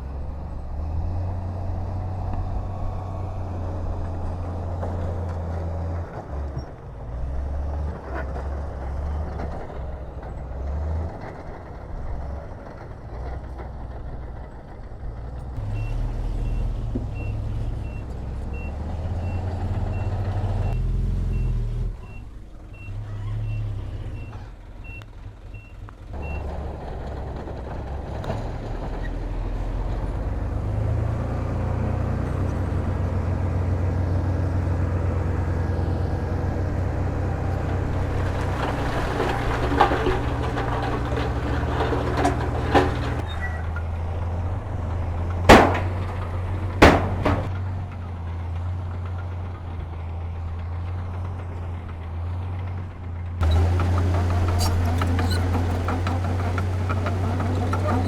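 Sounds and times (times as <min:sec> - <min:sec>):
diesel construction machinery running: 0:00.0 - 0:58.0.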